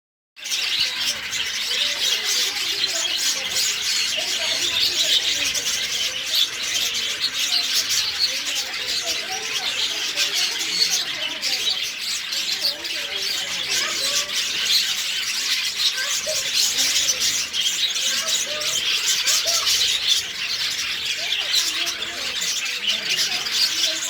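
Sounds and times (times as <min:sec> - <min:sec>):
caged birds chirping: 0:00.4 - 0:24.0.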